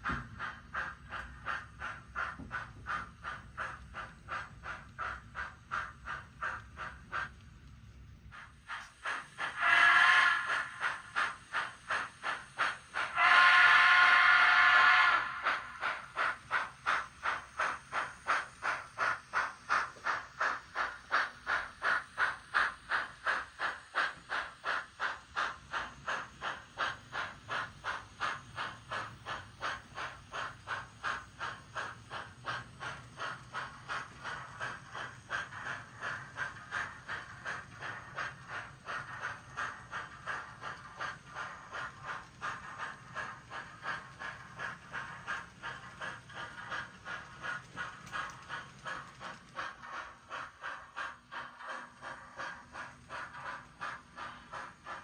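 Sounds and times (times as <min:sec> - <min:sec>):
model steam locomotive chuffs: 0:00.0 - 0:55.0.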